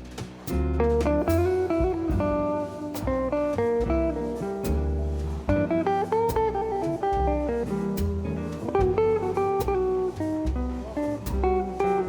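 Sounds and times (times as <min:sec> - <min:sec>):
guitar over bass: 0:00.0 - 0:12.0.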